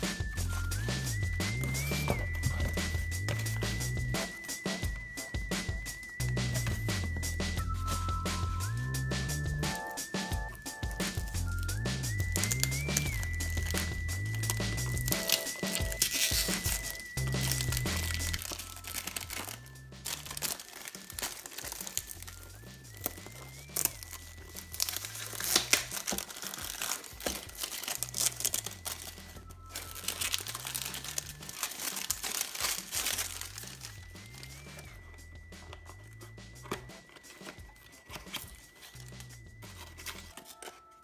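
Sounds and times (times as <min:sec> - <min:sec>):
background music with low bass: 0:00.0 - 0:41.0
packaging crinkling: 0:01.5 - 0:04.5, 0:09.7 - 0:41.0.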